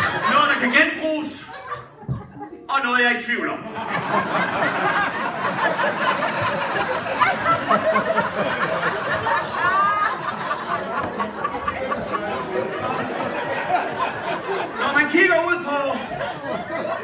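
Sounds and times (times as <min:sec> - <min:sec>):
audience laughing: 0:00.0 - 0:02.8, 0:03.5 - 0:17.0.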